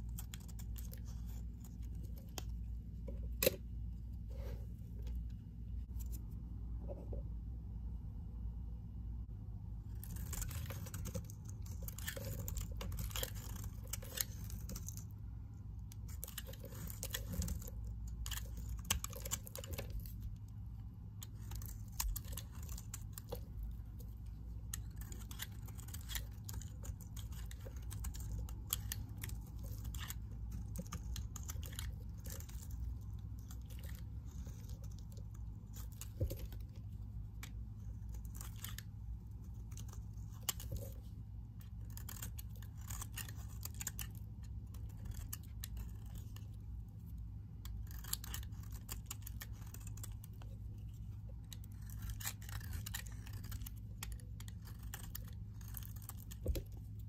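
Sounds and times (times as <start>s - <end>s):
blade scraping soap: 0.0s - 3.6s, 9.9s - 15.2s, 15.9s - 20.4s, 21.2s - 57.0s.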